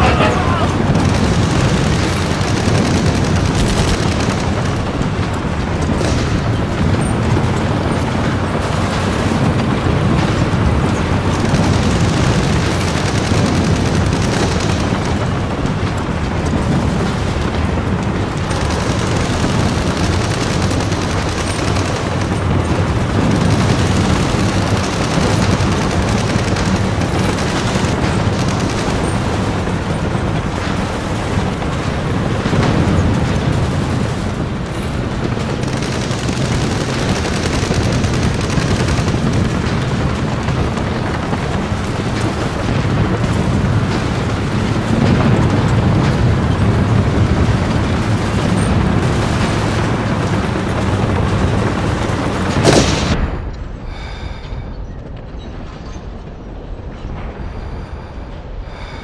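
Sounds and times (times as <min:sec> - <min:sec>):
rifle and machine-gun fire: 0:00.0 - 0:53.4.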